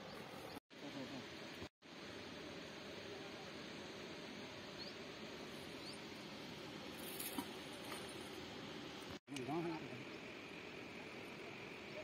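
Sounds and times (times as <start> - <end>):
outdoor background noise by water: 0.0 - 12.0.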